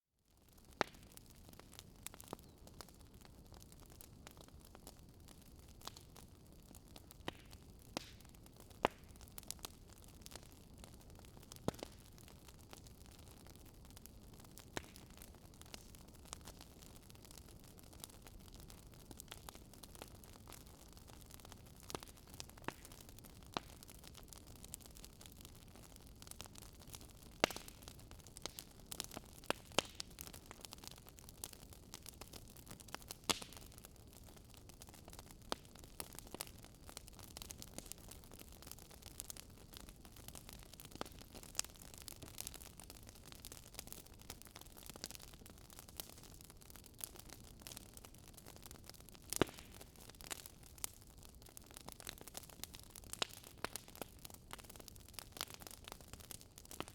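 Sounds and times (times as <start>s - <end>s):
faint steady fire hiss: 0.0s - 56.9s
wood fire crackling: 0.4s - 56.9s.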